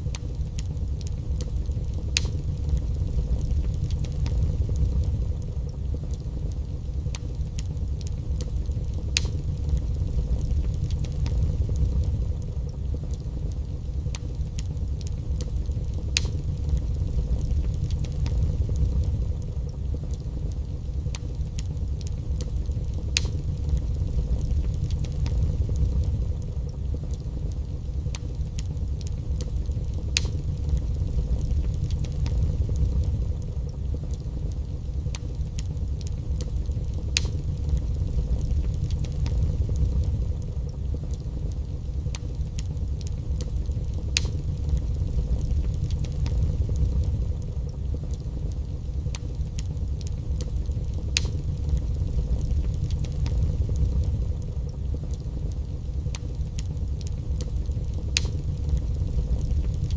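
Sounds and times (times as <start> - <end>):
low rumble of fire flames: 0.0 - 59.9
wood fire crackling and popping: 0.0 - 59.9.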